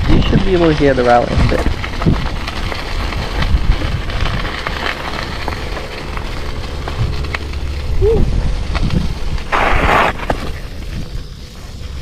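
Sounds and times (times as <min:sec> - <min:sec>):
rattlesnake rattling: 0:00.0 - 0:12.0
wind rumble on microphone: 0:00.0 - 0:12.0.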